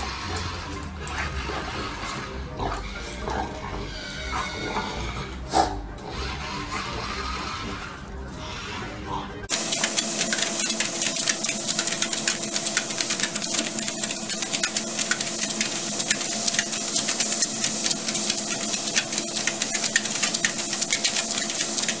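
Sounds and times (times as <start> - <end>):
treadmill motor whine: 0.0 - 22.0.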